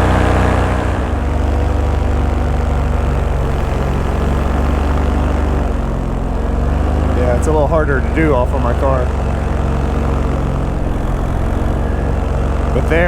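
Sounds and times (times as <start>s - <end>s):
paramotor engine and propeller: 0.0s - 13.0s.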